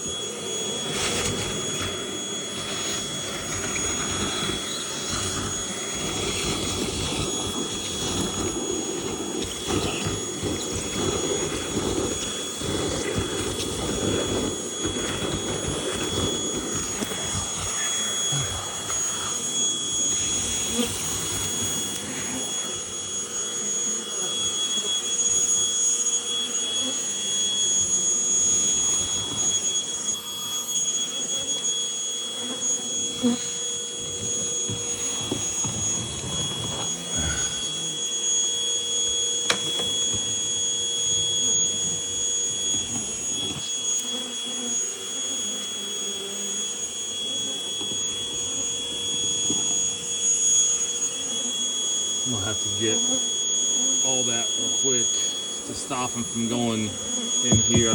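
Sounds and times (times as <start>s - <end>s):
vacuum motor whining: 0.0s - 57.9s.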